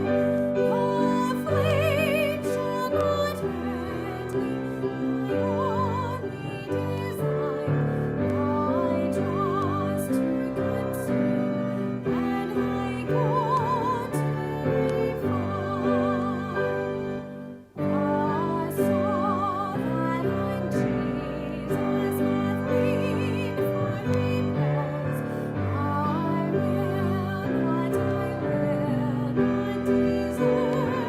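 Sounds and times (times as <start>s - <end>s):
instrumental accompaniment: 0.0s - 31.0s
person singing with vibrato: 0.0s - 31.0s.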